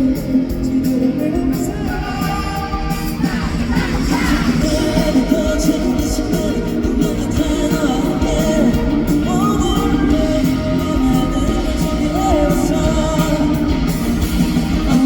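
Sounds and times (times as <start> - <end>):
man singing: 0.0 - 15.0
rock band playing live: 0.0 - 15.0.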